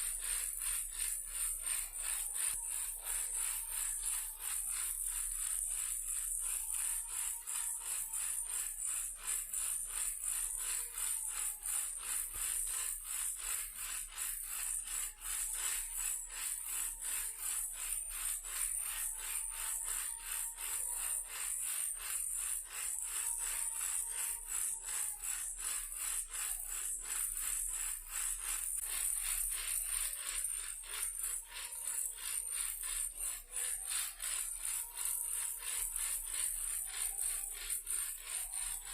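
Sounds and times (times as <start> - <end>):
toy car rattling: 0.0 - 38.9.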